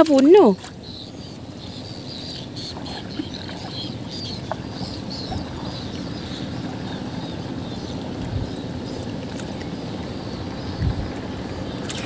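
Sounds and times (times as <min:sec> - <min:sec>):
small birds chirping: 0:00.0 - 0:12.0
steady low rumble: 0:00.7 - 0:12.0.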